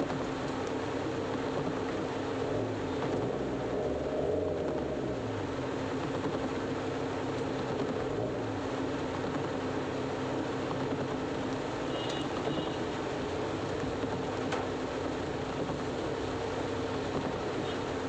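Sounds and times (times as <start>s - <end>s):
heavy rain on car roof: 0.0s - 18.0s
passing traffic engines: 0.0s - 18.0s.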